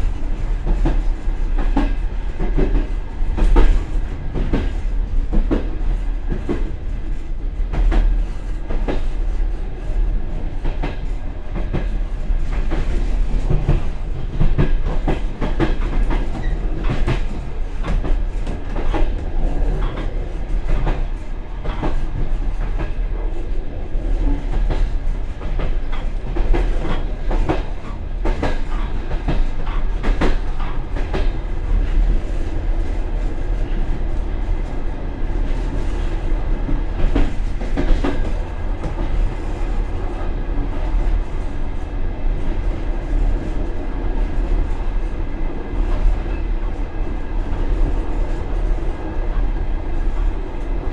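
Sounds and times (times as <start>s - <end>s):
train rumble: 0.0s - 50.9s.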